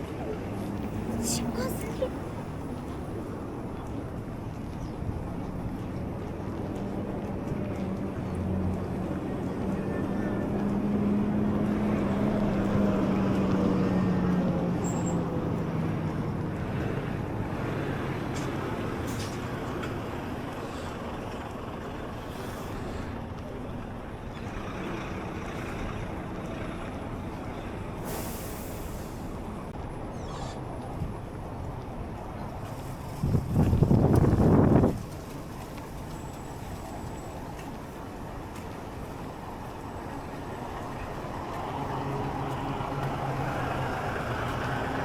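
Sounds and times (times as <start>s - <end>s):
heavy vehicle engine hum: 0.0s - 45.0s
road and wind noise: 0.0s - 45.0s.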